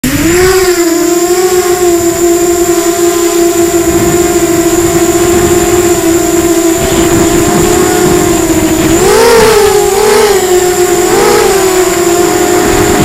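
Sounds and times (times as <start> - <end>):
drone motors and propellers whining: 0.0 - 13.0.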